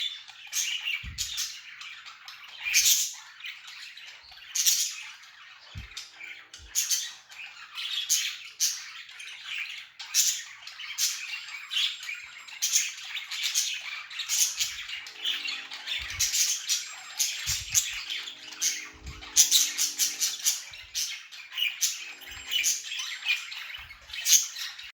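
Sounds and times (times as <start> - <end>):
budgies chattering and chirping: 0.0 - 24.9.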